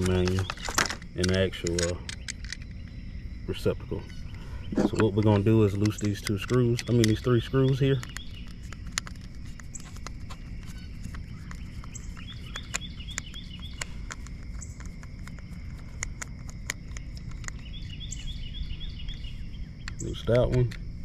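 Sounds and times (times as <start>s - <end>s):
low outdoor rumble: 0.0s - 21.0s
small bird chirping: 0.0s - 21.0s.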